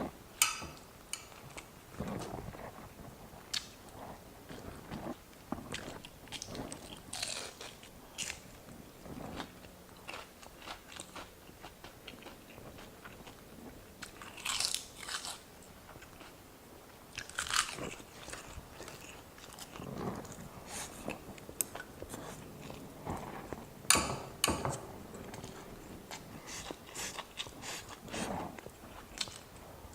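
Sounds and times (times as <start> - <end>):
person chewing crunchy food: 1.2 - 16.4, 17.1 - 29.7.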